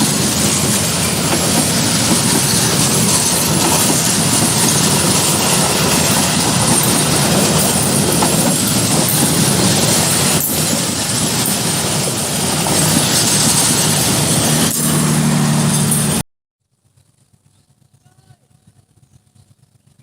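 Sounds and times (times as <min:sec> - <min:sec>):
train rushing past: 0:00.0 - 0:16.2.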